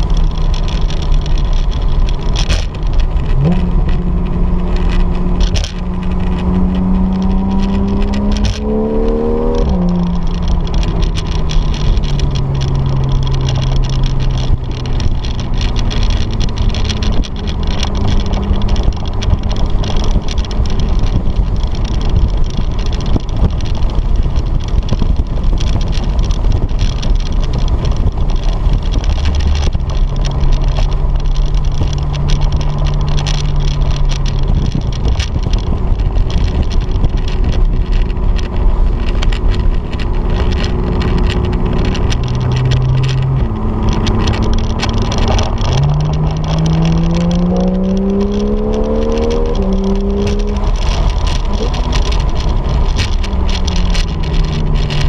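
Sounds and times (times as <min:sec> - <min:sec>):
car engine revving: 0:00.0 - 0:55.0
tyre and wind noise: 0:00.0 - 0:55.0.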